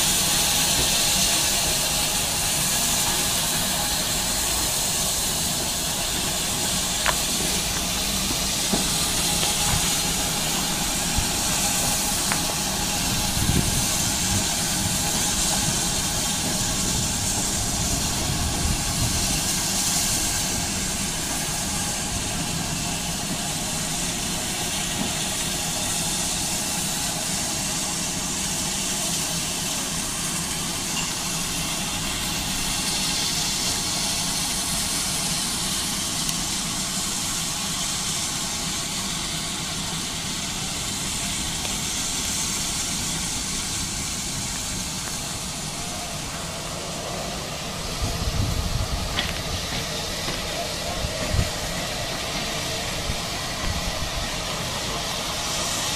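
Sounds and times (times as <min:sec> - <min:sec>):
steam locomotive venting steam: 0:00.0 - 0:55.9.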